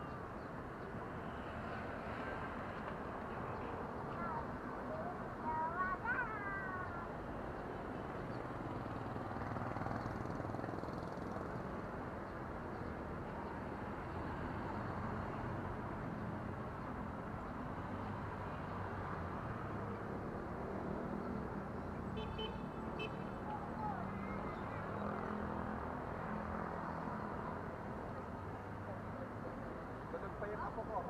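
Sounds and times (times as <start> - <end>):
distant road traffic rumble: 0.0 - 31.0.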